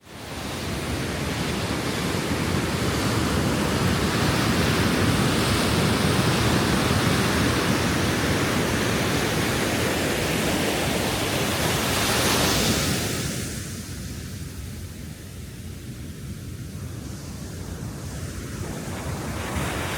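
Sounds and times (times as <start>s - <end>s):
ocean waves breaking on shore: 0.0s - 19.9s.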